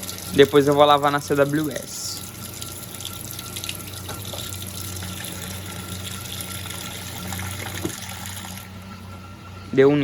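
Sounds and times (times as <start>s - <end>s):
water rushing into tub: 0.0s - 8.7s
washing machine hum: 0.0s - 10.0s.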